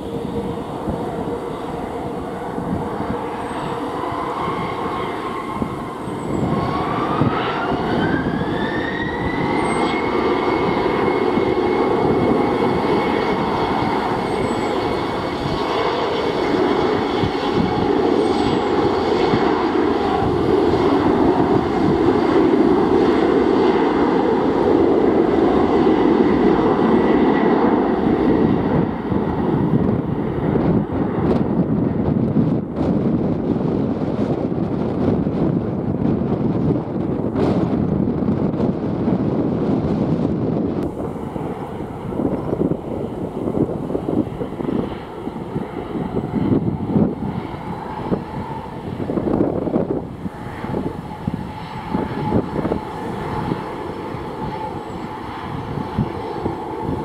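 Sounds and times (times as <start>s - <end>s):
jet engines spooling up: 0.0s - 57.0s
rising engine whine: 0.0s - 57.0s.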